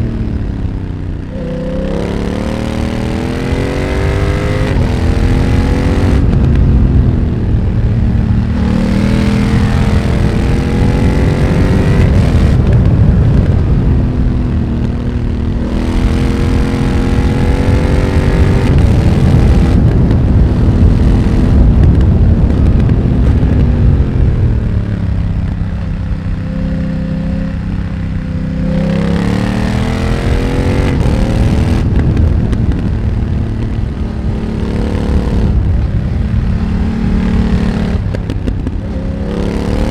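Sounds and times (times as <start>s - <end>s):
motorcycle engine revving through gears: 0.0s - 39.9s
wind rush: 0.0s - 39.9s.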